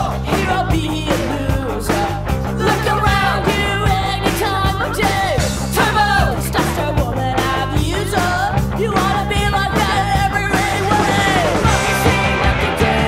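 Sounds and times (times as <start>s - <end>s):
drums: 0.0s - 13.0s
electric guitar: 0.0s - 13.0s
person singing: 0.0s - 13.0s.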